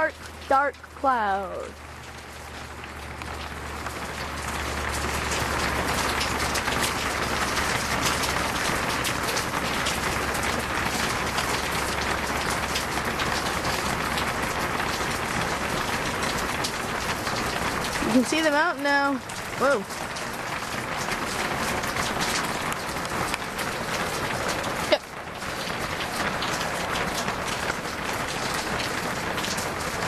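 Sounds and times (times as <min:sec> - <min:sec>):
heavy rain pouring: 0:00.0 - 0:30.0
raindrops striking close by: 0:00.0 - 0:30.0.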